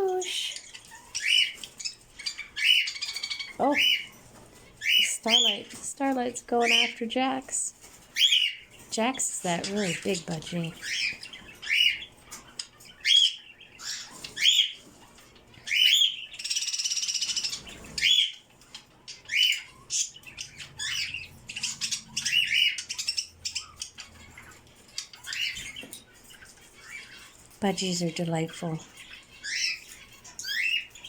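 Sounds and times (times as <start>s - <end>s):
budgerigars chirping: 0.0s - 31.0s.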